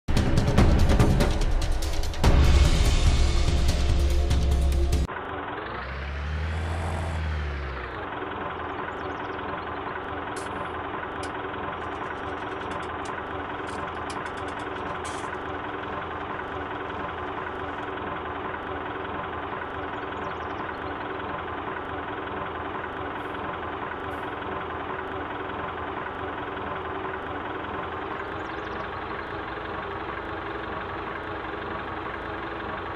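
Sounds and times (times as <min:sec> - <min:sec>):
diesel tractor engine idling: 0:00.1 - 0:32.9.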